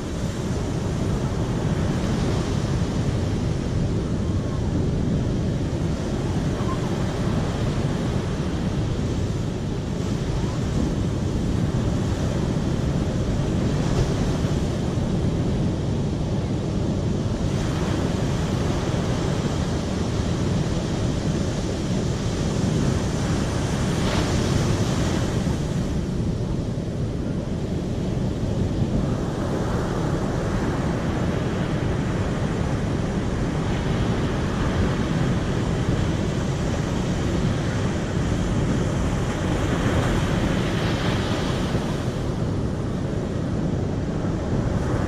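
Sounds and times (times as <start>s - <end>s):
deep rushing water: 0.0s - 45.0s.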